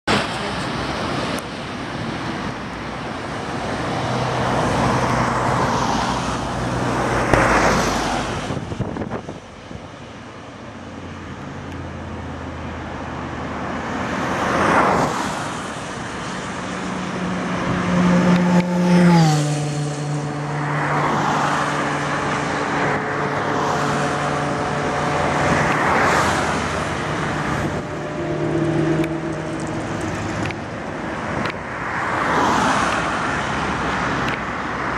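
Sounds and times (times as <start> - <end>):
cars passing: 0.0 - 34.9
diesel locomotive engine hum: 0.1 - 34.9.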